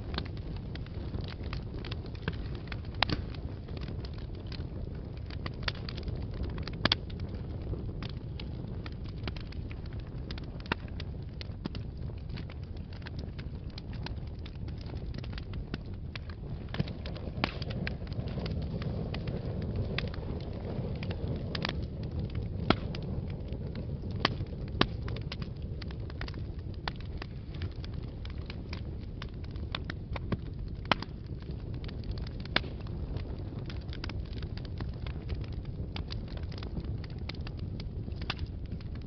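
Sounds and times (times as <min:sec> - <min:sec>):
fire crackling and popping: 0:00.0 - 0:39.0
loud fire snaps: 0:00.0 - 0:39.0
low rumble of flames: 0:00.0 - 0:39.0.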